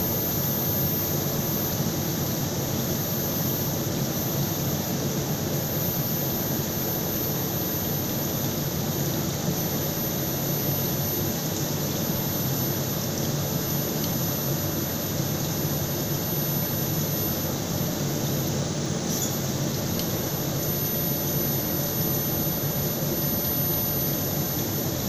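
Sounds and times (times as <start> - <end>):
thin high whine: 0.0 - 25.0.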